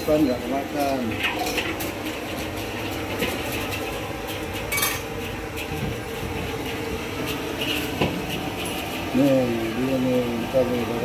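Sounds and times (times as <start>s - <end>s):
steady background hum: 0.0s - 11.0s
dishes and utensils clinking: 0.7s - 10.8s.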